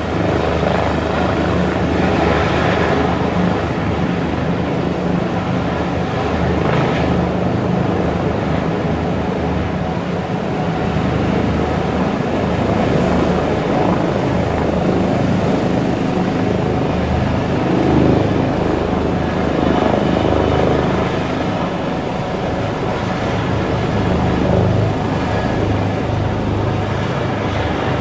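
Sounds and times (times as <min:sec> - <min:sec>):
helicopter rotor and turbine: 0:00.0 - 0:28.0.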